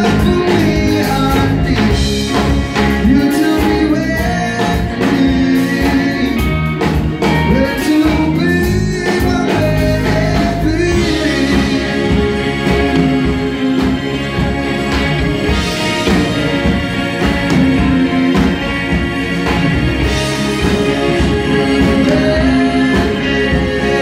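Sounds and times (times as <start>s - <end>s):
lead vocalist singing: 0.0s - 14.6s, 15.5s - 24.0s
live pop-rock band playing: 0.0s - 24.0s.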